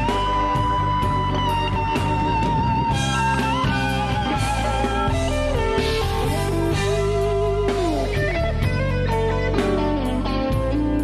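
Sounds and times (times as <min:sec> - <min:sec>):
bass and drums: 0:00.0 - 0:11.0
electric guitar lead: 0:00.0 - 0:11.0.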